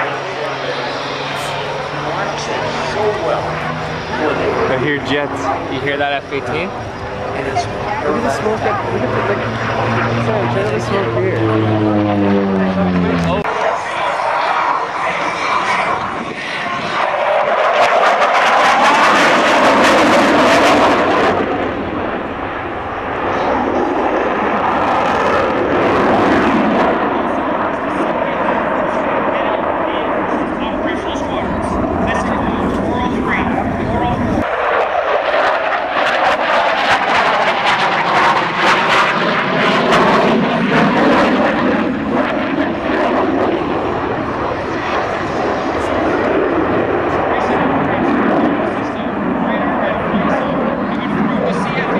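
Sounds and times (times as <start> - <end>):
aircraft engine roar: 0.0 - 51.9.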